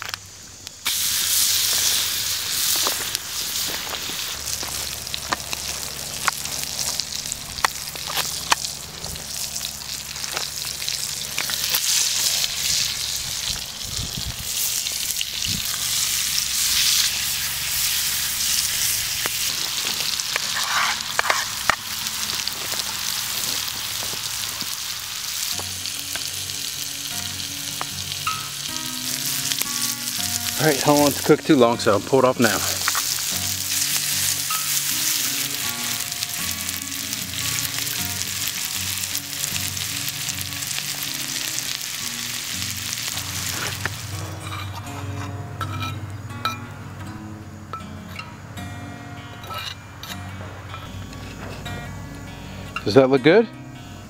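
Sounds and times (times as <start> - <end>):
sharp pops and crackles: 0.0 - 45.0
steaks sizzling in frying pan: 0.0 - 45.9.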